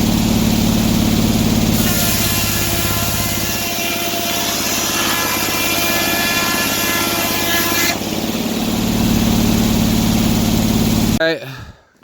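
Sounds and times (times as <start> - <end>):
saw blade whine cutting wood: 0.0 - 11.2
sawmill engine running: 0.0 - 11.2.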